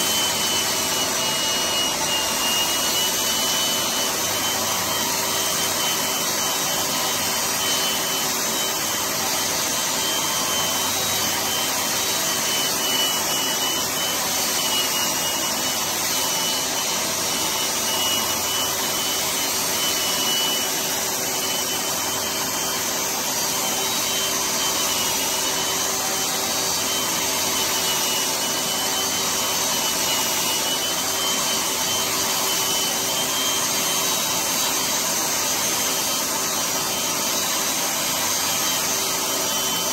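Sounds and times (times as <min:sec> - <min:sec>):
dust extraction vacuum: 0:00.0 - 0:39.9
power sander running: 0:00.0 - 0:39.9
sander scraping plaster: 0:00.0 - 0:39.9.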